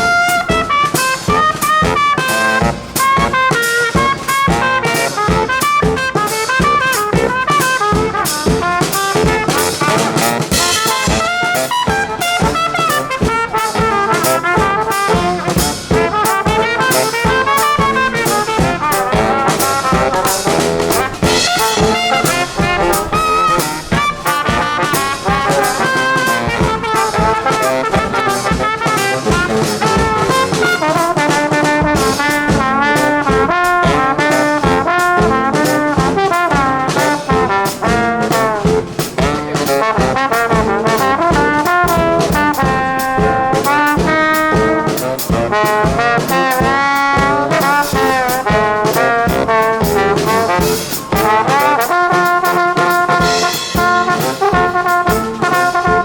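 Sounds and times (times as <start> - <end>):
brass band playing: 0.0 - 56.0
steady drum beat: 0.0 - 56.0.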